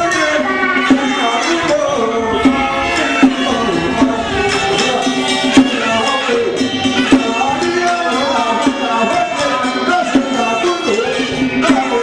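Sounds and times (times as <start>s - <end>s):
ritual melody of held notes: 0.0s - 12.0s
sharp percussion strikes: 0.0s - 12.0s.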